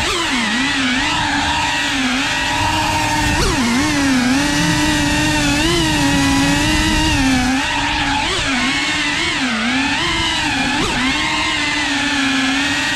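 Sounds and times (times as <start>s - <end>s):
drone motors whining: 0.0s - 12.9s.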